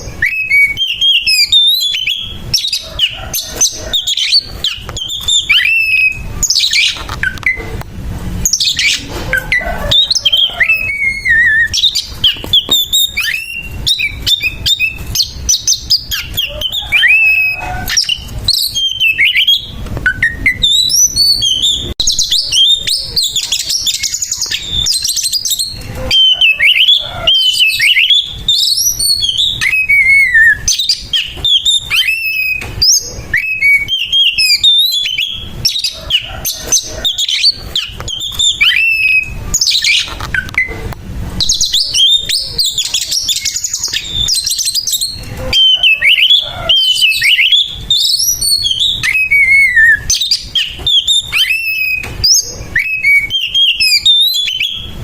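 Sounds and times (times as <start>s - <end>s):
bird singing harsh fast song: 0.0s - 7.8s, 8.4s - 55.0s.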